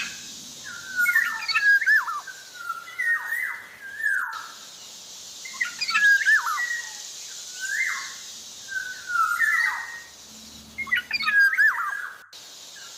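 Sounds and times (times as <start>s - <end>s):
bird whistling song: 0.0s - 4.6s, 5.4s - 12.9s
steady hiss: 0.0s - 12.9s.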